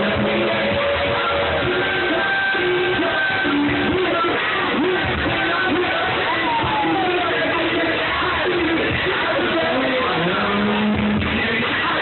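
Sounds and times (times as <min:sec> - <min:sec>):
loud live club music: 0:00.0 - 0:12.0.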